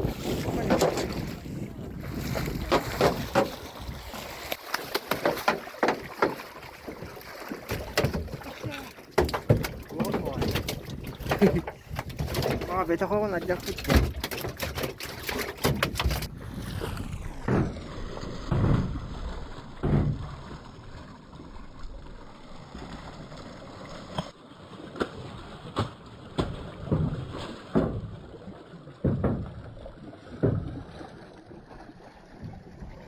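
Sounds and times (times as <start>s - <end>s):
low dull thumps in water: 0.0s - 23.4s, 25.7s - 33.0s.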